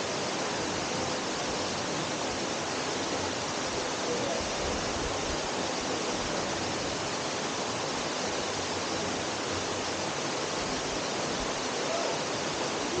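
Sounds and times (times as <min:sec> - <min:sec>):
waterfall rushing into a pool: 0:00.0 - 0:13.0.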